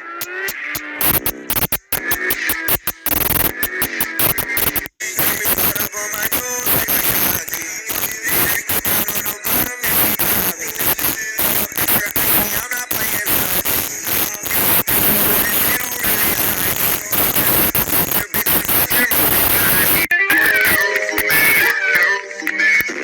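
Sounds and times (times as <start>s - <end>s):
hissing static noise: 0.0s - 23.0s.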